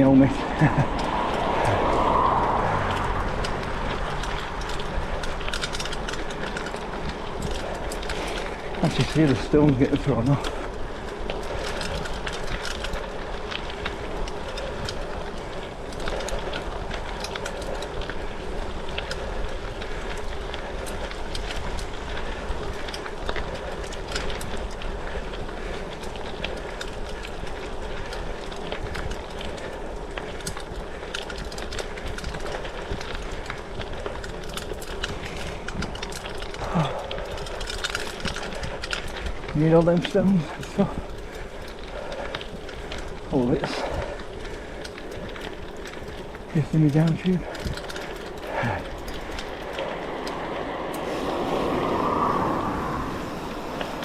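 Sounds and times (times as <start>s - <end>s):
bike tyres rolling over gravel: 0.0s - 54.0s
stones ticking against bike frame: 0.0s - 54.0s.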